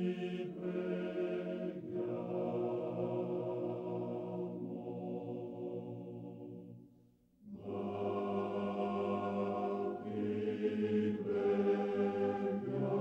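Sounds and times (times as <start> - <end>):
chant-like choral music: 0.0 - 13.0.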